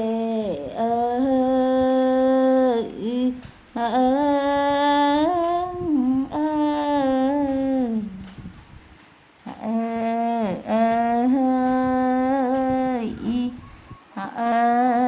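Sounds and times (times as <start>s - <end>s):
person humming: 0.0s - 8.4s, 9.5s - 13.6s, 14.2s - 15.0s.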